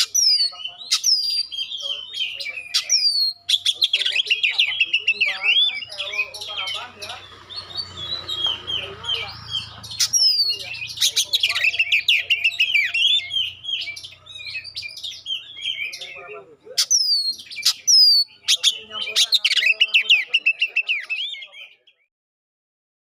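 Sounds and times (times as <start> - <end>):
bird singing chirps and whistles: 0.0 - 22.1.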